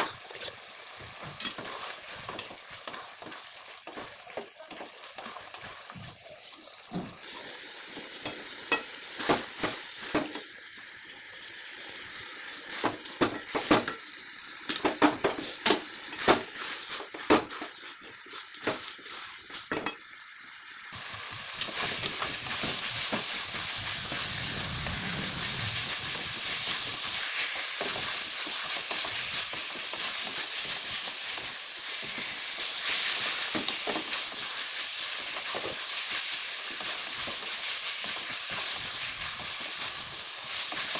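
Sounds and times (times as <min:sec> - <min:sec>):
frying sizzle: 0:00.0 - 0:40.9.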